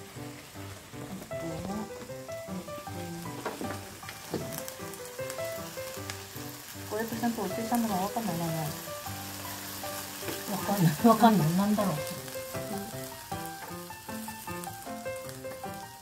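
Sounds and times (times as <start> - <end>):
background music: 0.0 - 16.0
meat sizzling in a frying pan: 0.0 - 16.0.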